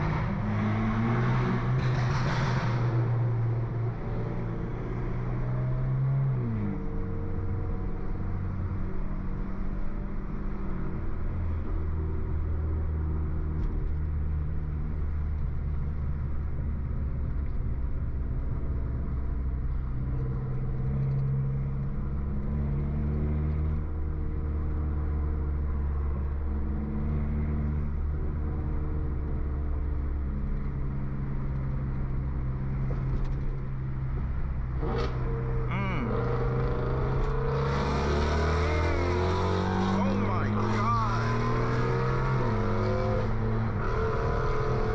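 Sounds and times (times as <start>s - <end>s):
car engine and exhaust revving: 0.0s - 44.9s.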